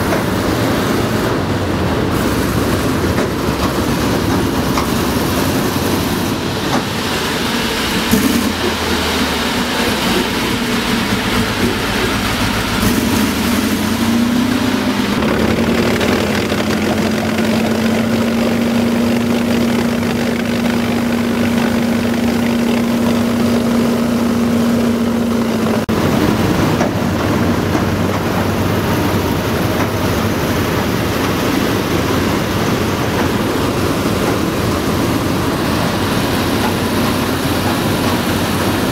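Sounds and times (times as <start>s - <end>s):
amphibious tractor engine running: 0.0s - 38.9s
tracks churning water: 0.0s - 38.9s.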